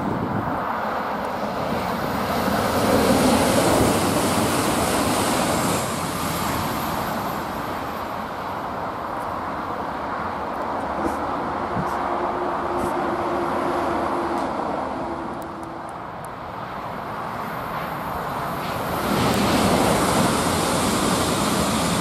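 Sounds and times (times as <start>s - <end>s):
electric train passing at speed: 0.0s - 22.0s.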